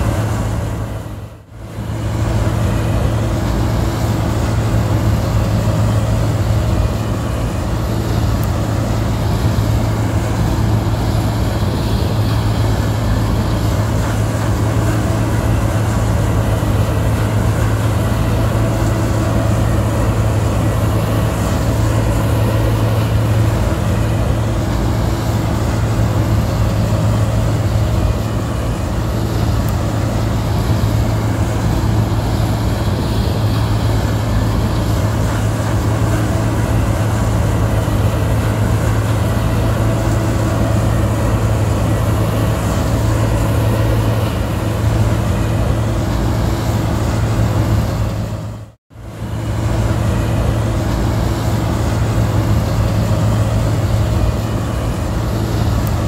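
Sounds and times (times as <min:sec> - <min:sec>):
combine engine hum: 0:00.0 - 0:56.0.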